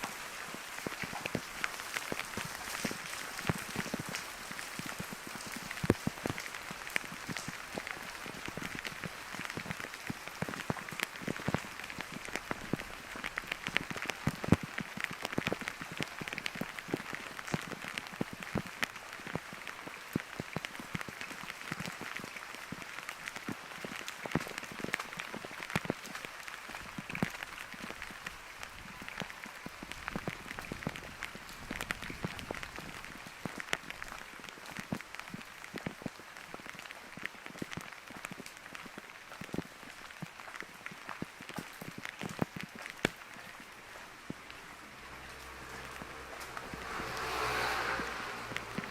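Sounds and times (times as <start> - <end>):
sharp raindrop hits: 0.0 - 48.9
steady rain falling: 0.0 - 48.9.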